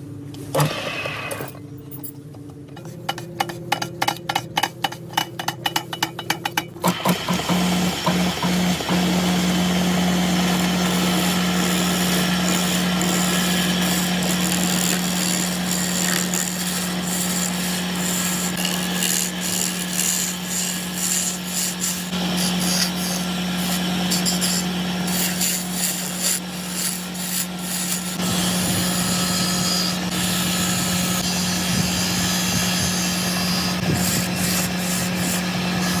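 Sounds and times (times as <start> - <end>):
wood rasping and scraping: 2.7 - 5.2, 7.6 - 36.0
power tool motor hum: 6.8 - 36.0.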